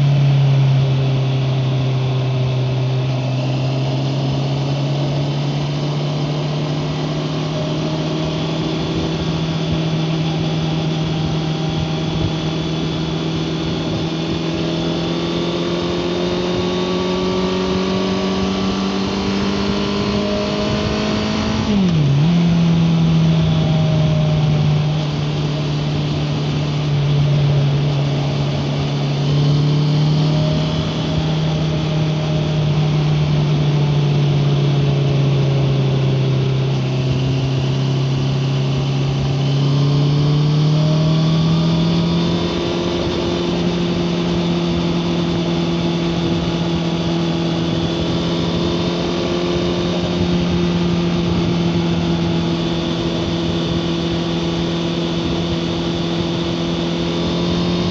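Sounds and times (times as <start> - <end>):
motorcycle engine cruising: 0.0 - 57.9
wind and road noise: 0.0 - 57.9.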